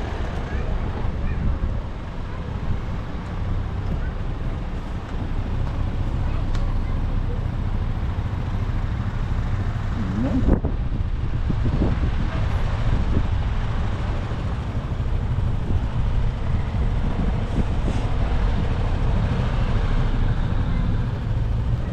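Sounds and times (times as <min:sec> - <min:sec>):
heavy truck engines rumbling: 0:00.0 - 0:21.9.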